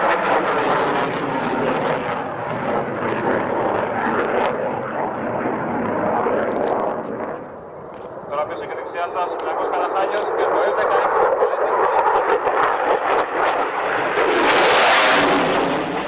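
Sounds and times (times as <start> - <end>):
fighter jet engine roar: 0.0 - 16.0.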